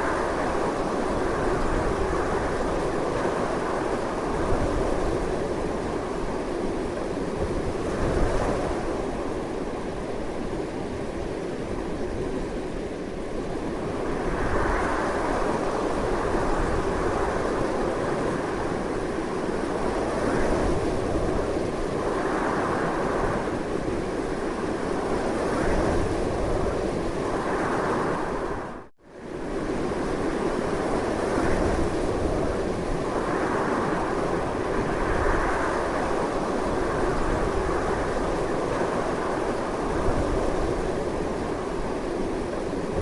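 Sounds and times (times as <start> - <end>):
strong wind rushing: 0.0 - 43.0.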